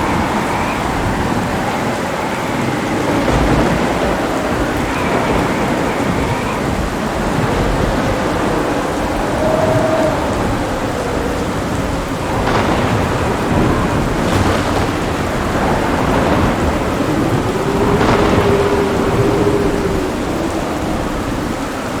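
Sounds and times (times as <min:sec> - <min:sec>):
heavy rain: 0:00.0 - 0:22.0
rolling thunder: 0:00.0 - 0:22.0.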